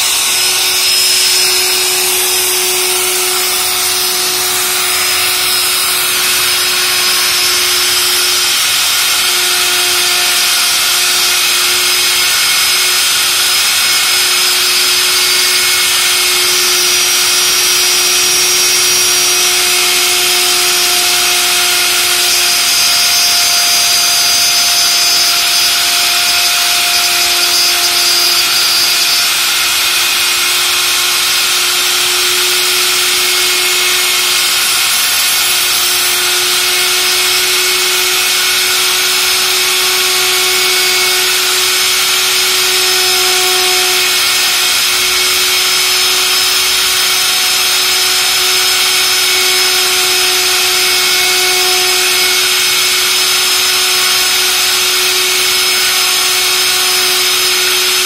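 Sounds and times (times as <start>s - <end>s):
router bit rasping into wood: 0.0s - 58.0s
router motor whine: 0.0s - 58.0s.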